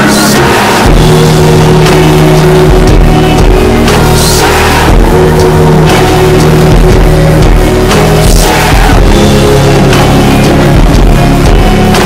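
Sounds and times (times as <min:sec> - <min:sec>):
loud rock music with singing: 0:00.0 - 0:12.0.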